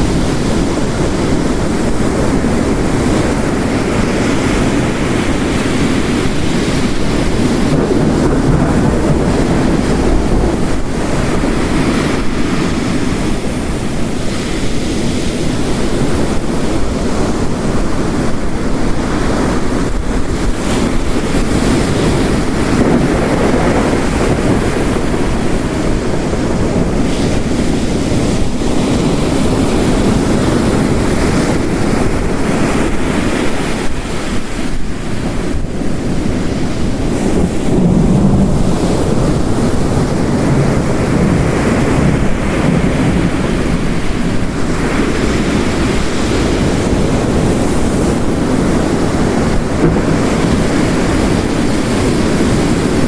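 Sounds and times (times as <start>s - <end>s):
heavy rain: 0.0s - 53.0s
ocean surf crashing: 0.0s - 53.0s.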